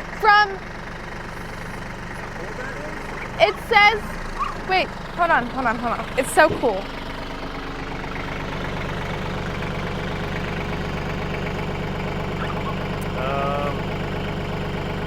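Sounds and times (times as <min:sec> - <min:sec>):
tractor engine humming: 0:00.0 - 0:15.0.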